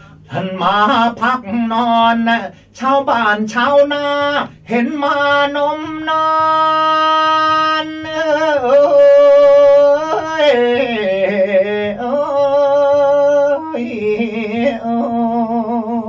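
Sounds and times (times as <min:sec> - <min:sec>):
man singing wavering notes: 0:00.3 - 0:16.0.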